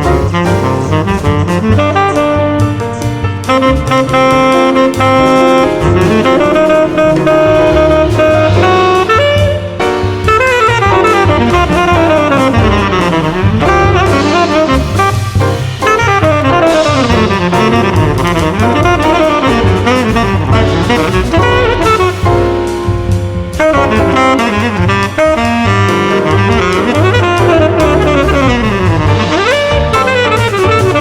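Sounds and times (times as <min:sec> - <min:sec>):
saxophone runs: 0:00.0 - 0:22.7, 0:23.6 - 0:31.0
drum kit: 0:00.0 - 0:31.0.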